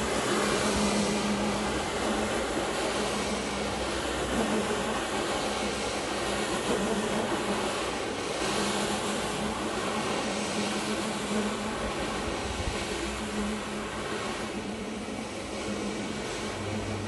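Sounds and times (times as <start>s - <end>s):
carpet scrubbing machine motor hum: 0.0s - 17.0s.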